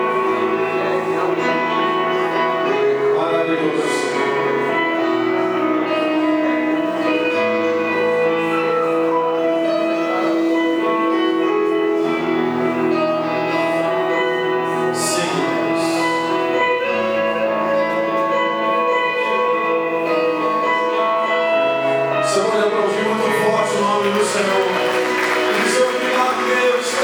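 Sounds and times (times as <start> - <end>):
slow worship music: 0.0 - 27.0.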